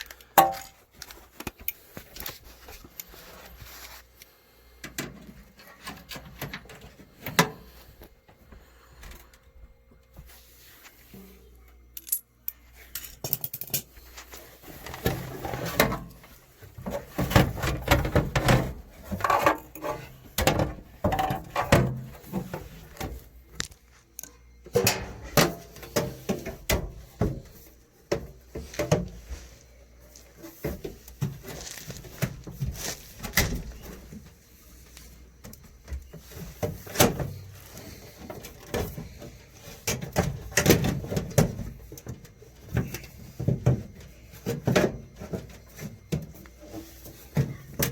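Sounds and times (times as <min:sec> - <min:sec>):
parts and tools clattering: 0:00.0 - 0:04.0, 0:11.9 - 0:29.4, 0:30.1 - 0:47.9.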